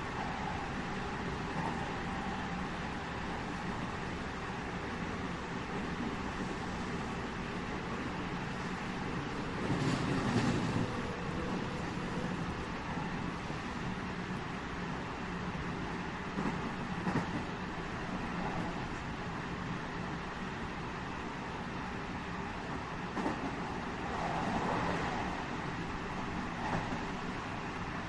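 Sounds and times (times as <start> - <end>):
electric train rolling rumble: 0.0 - 28.0.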